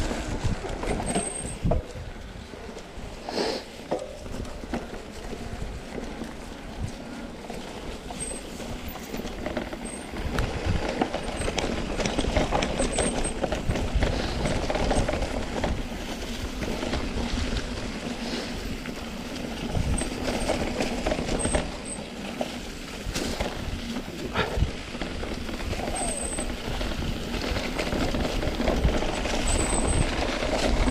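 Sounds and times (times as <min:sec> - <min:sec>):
bike frame and chain rattling: 0:00.0 - 0:30.9
tyres crunching over dirt: 0:00.0 - 0:30.9.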